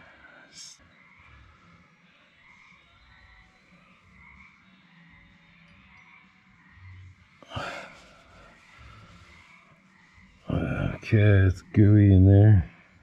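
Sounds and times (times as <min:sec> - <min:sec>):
faint frog chorus: 0:00.0 - 0:13.0.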